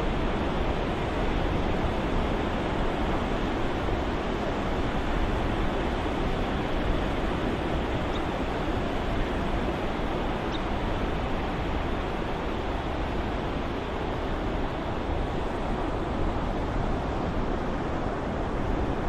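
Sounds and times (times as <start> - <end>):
ocean surf washing: 0.0 - 19.0.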